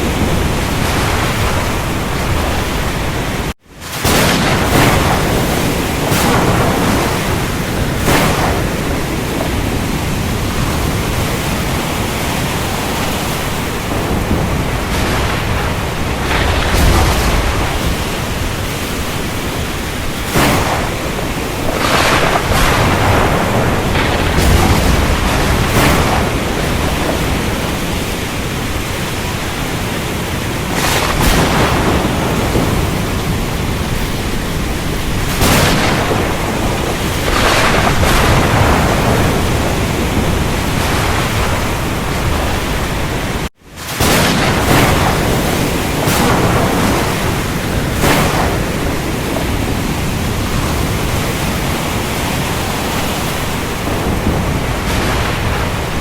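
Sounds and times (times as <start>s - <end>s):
heavy rain hissing: 0.0s - 56.0s
thunder rumbling: 0.0s - 56.0s.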